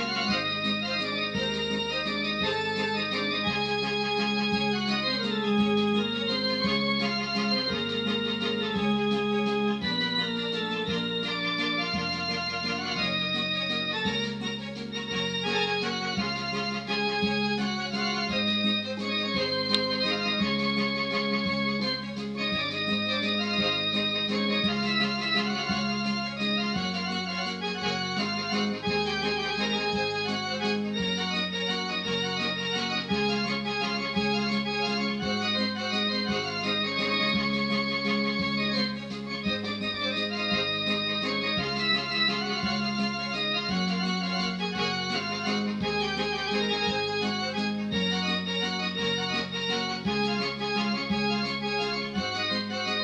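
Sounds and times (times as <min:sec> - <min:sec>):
electronic keyboard organ melody: 0:00.0 - 0:53.0.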